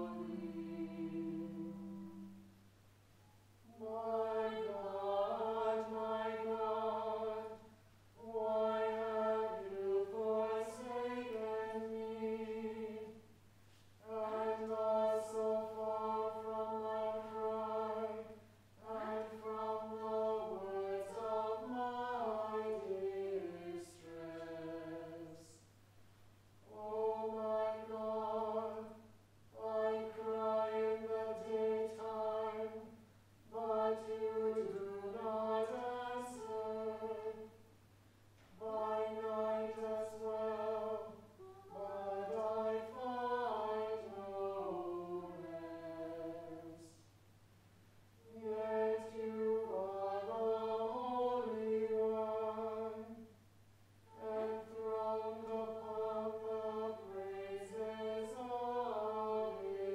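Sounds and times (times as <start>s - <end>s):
choir chanting: 0.0s - 2.5s, 3.7s - 13.3s, 14.0s - 25.6s, 26.7s - 37.6s, 38.5s - 47.0s, 48.2s - 53.3s, 54.1s - 59.9s.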